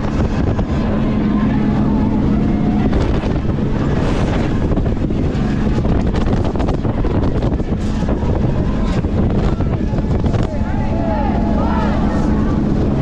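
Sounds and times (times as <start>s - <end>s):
boat engine rumbling: 0.0s - 13.0s
wind buffeting microphone: 0.0s - 13.0s.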